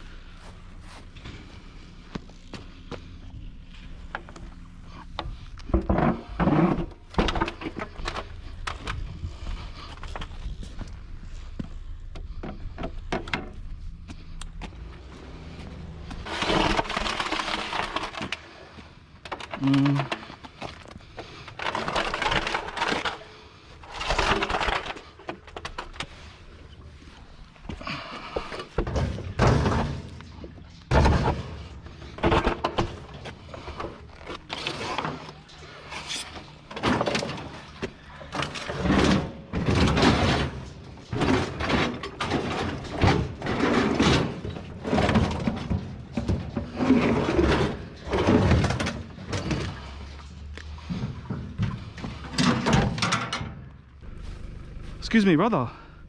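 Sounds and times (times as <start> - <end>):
scrap metal thumps and clanks: 5.0 - 11.0, 12.1 - 26.4, 27.6 - 53.8.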